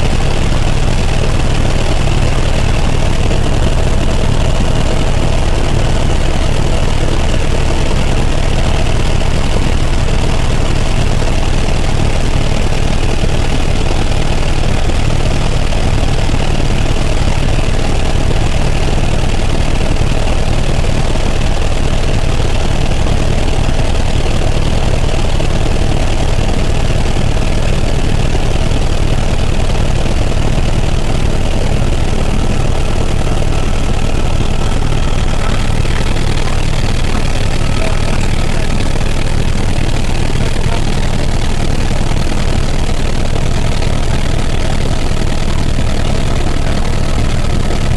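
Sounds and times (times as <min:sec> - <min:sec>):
helicopter turbine and rotor drone: 0:00.0 - 0:47.9
thin steady whine: 0:00.0 - 0:47.9.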